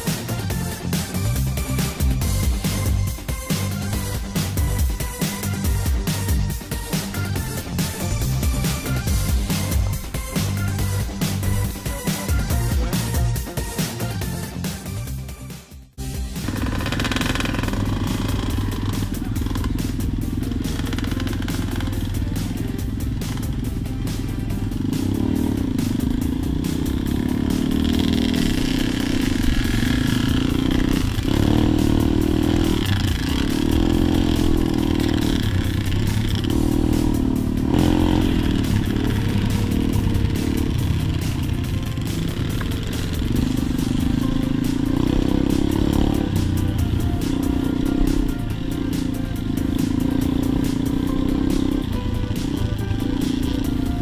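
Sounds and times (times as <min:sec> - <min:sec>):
dirt bike engine revving: 0:00.0 - 0:15.2, 0:15.9 - 0:54.0.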